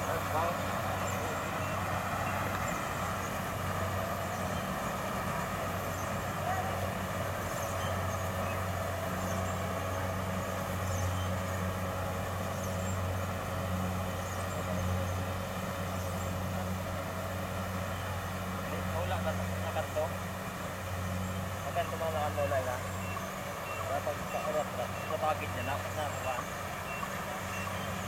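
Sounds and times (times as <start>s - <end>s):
combine harvester diesel engine: 0.0s - 28.0s.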